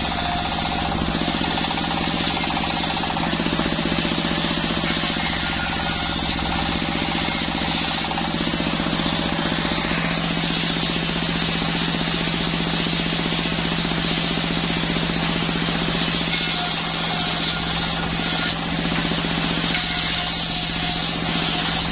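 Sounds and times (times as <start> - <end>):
circular saw running: 0.0 - 21.9.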